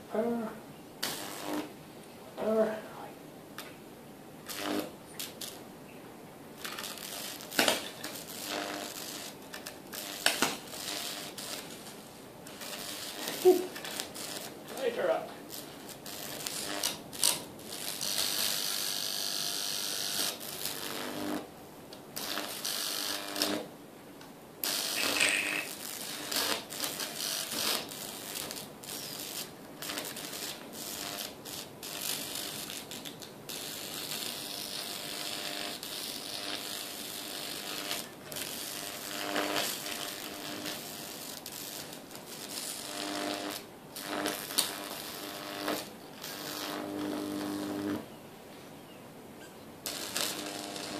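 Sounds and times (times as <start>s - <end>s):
steady electrical buzz: 0.0s - 50.9s
electric arc crackling: 1.0s - 1.8s, 4.4s - 5.6s, 6.6s - 23.7s, 24.6s - 48.1s, 49.8s - 50.9s.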